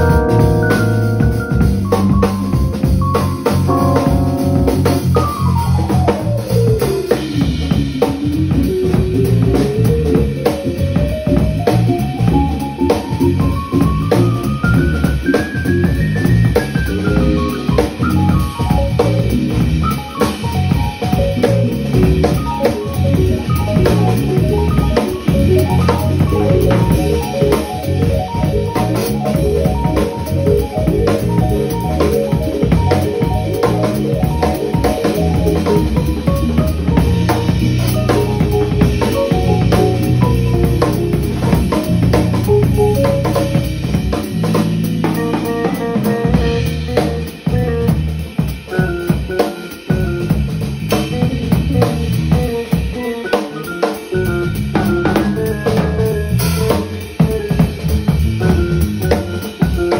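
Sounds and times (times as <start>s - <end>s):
drum kit groove: 0.0s - 59.9s
electronic keyboards: 0.0s - 59.9s.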